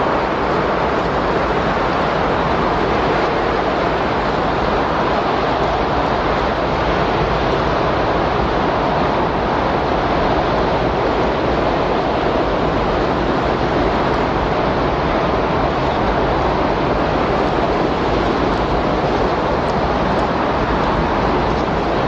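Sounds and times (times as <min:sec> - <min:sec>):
steady rushing wind: 0:00.0 - 0:22.0.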